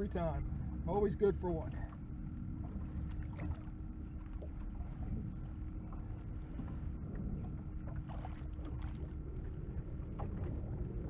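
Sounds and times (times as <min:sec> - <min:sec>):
faint steady hum: 0:00.0 - 0:11.0
wind and water around boat: 0:00.0 - 0:11.0.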